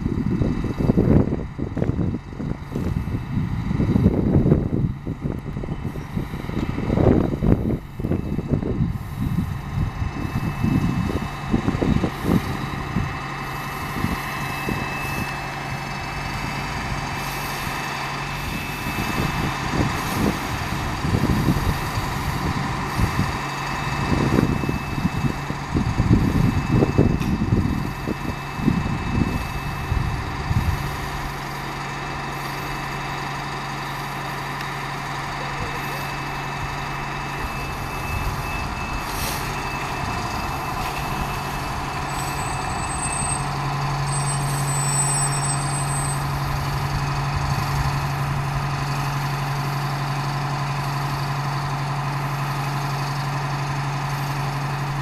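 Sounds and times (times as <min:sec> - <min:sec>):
diesel engine idling: 0:00.0 - 0:55.0
low rumbling: 0:00.0 - 0:55.0.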